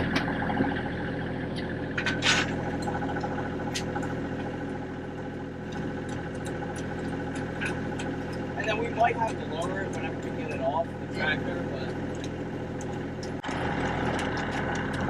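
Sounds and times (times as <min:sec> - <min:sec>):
engine hum: 0:00.0 - 0:15.0
road noise: 0:00.0 - 0:15.0.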